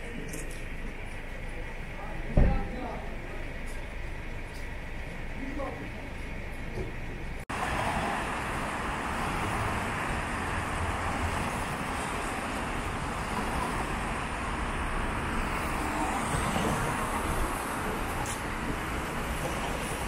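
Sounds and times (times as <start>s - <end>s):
cars driving on wet street: 2.8s - 20.0s.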